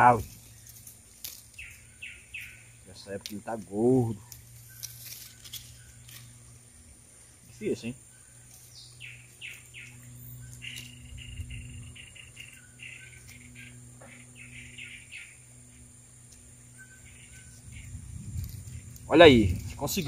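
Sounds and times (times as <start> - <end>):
birds calling: 0.0 - 20.0
faint steady low hum: 0.0 - 20.0.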